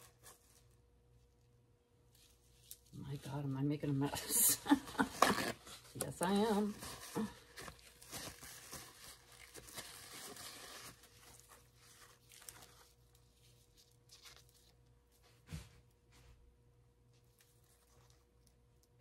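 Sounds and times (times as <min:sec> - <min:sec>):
faint rustling and handling: 0:00.0 - 0:19.0
low steady hum: 0:00.0 - 0:19.0.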